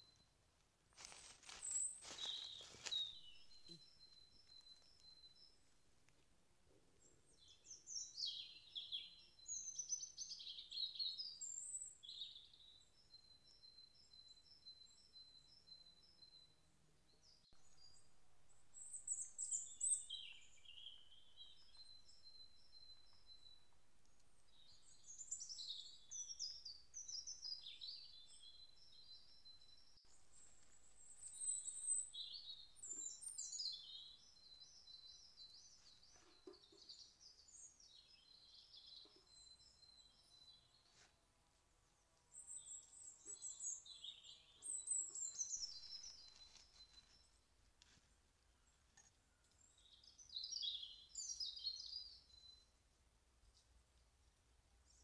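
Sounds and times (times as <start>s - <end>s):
songbirds calling: 1.0s - 5.7s, 6.9s - 40.9s, 42.3s - 47.4s, 49.0s - 52.7s.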